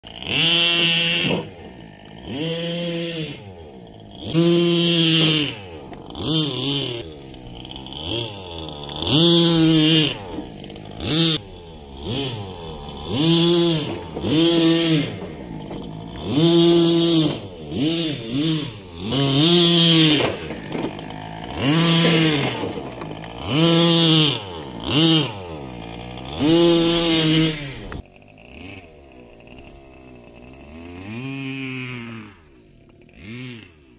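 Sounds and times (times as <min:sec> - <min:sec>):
nitro engine revving: 0:00.0 - 0:33.9.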